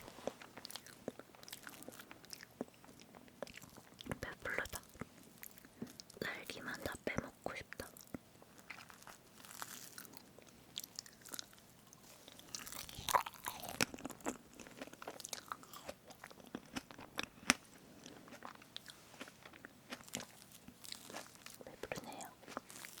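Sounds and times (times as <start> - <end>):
soft chewing and mouth sounds: 0.0 - 23.0.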